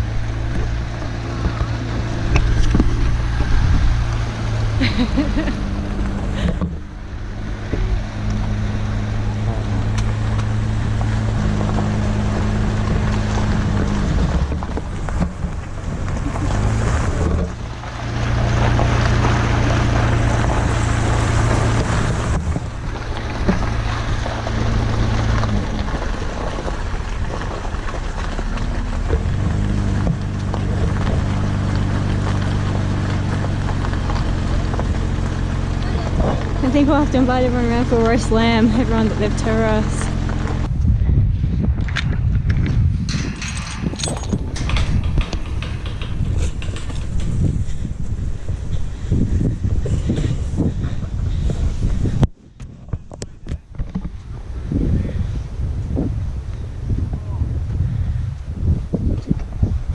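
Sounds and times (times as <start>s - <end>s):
vehicle engine running: 0.0s - 41.4s, 42.2s - 59.9s.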